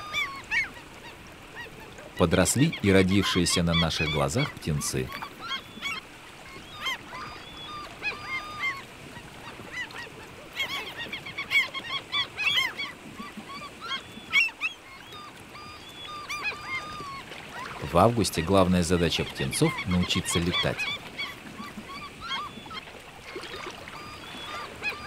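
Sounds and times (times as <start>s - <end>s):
gulls calling: 0.0s - 25.0s.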